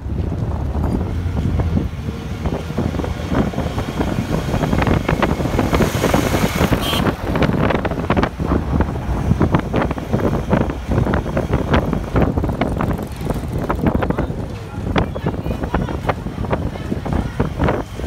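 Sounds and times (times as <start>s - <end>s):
truck passing close: 0.0s - 15.0s
road noise from moving vehicle: 0.0s - 18.0s
wind buffeting microphone: 0.0s - 18.0s.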